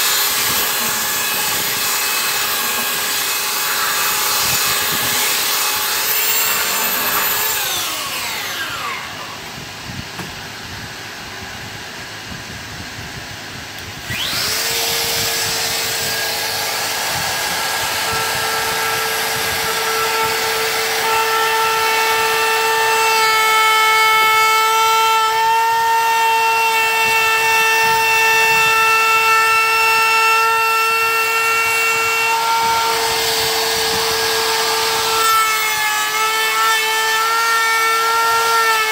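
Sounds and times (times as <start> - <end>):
belt sander running: 0.0 - 38.9
router whining: 0.0 - 38.9.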